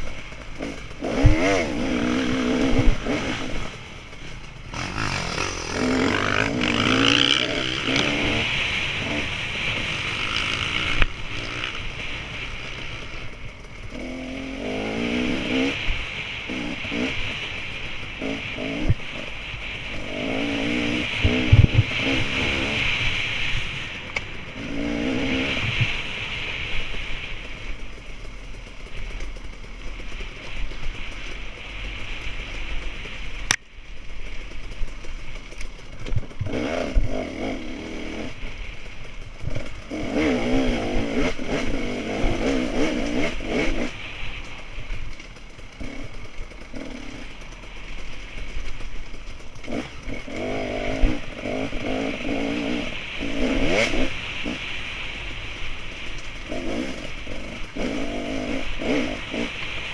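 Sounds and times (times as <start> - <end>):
off-road engine revving: 0.0 - 33.6, 34.3 - 59.9.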